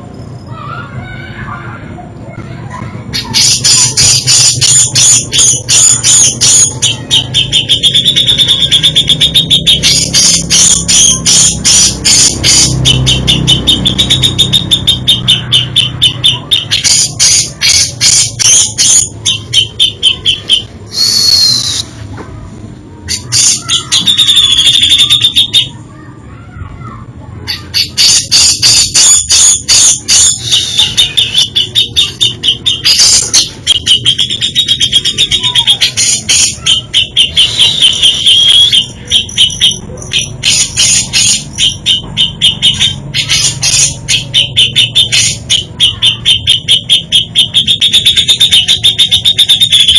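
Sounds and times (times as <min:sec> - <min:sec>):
bulbul singing rapid chattering trills: 0:02.4 - 0:21.9, 0:23.1 - 0:25.9, 0:27.5 - 0:49.9.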